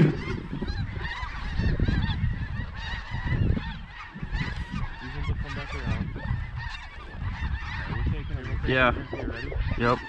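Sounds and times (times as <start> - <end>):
geese calling: 0.0 - 10.0.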